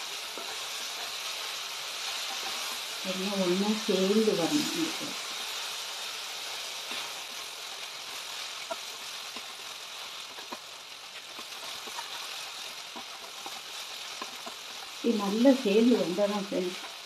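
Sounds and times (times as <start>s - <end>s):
spatula stirring: 0.0s - 3.6s, 5.1s - 17.0s
masala sizzling in pot: 0.0s - 17.0s.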